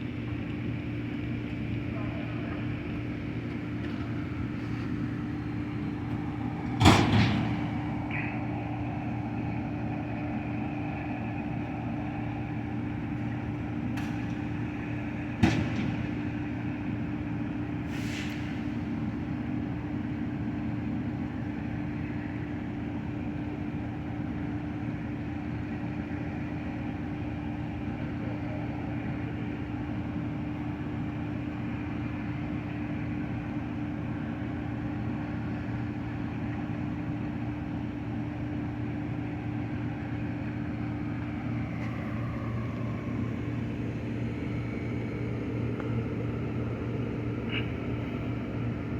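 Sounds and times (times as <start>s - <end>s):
engine hum: 0.0s - 48.9s.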